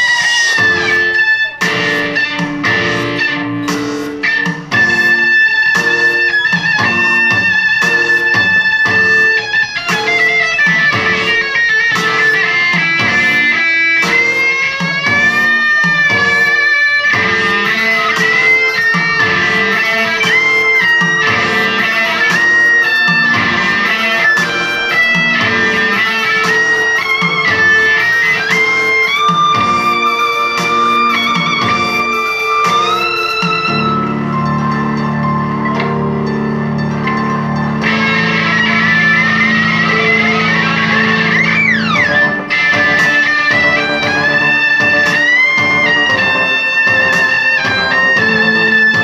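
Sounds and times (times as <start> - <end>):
amplified violin melody: 0.0 - 49.0
backing track with plucked strings: 0.0 - 49.0.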